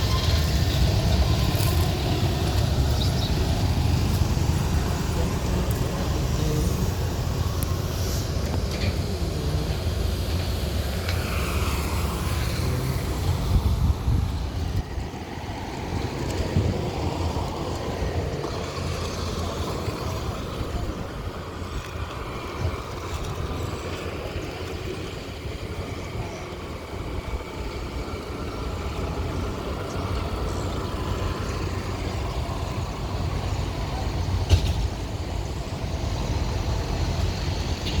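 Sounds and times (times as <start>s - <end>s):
heavy machinery engine drone: 0.0s - 38.0s.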